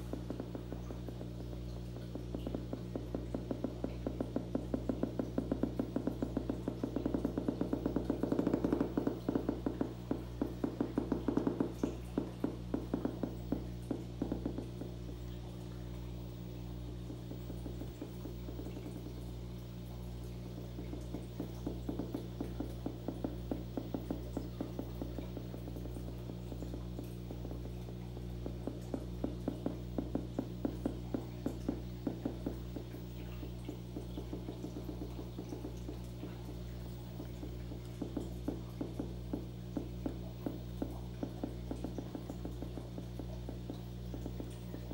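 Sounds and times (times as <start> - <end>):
steady electrical hum: 0.0 - 44.9.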